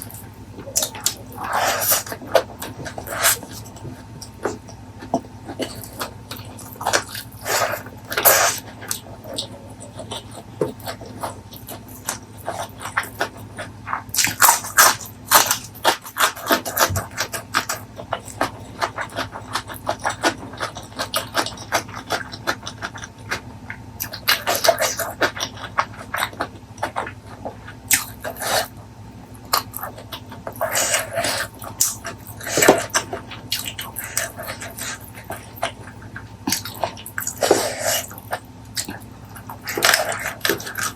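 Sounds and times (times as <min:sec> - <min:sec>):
chewing with wet mouth sounds: 0:00.0 - 0:40.9.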